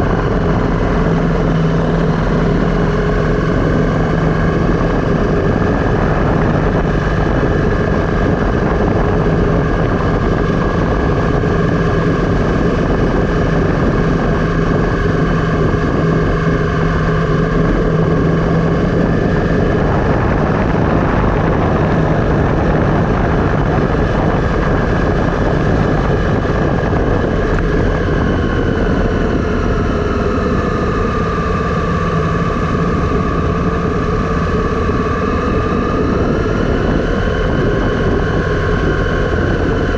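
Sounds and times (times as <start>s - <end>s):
vehicle droning: 0.0s - 39.9s.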